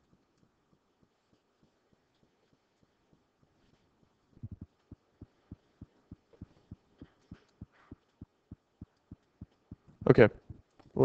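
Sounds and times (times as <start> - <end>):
faint low thuds: 0.8 - 11.0.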